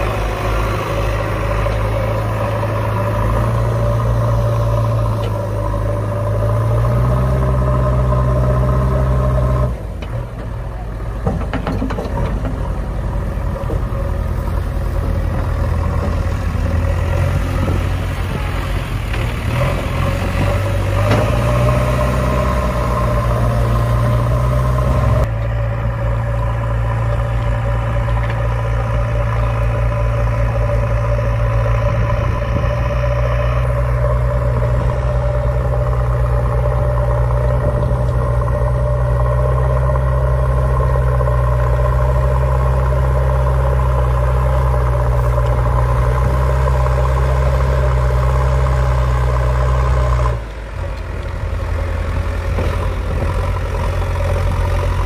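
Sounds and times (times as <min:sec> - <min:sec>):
heavy machine engine idling: 0:00.0 - 0:55.0.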